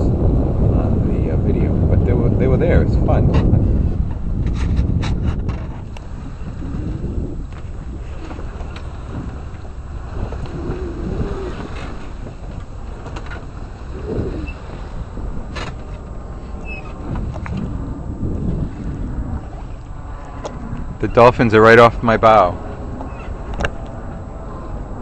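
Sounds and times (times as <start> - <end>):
water rushing along hull: 0.0 - 25.0
wind buffeting microphone: 0.0 - 25.0.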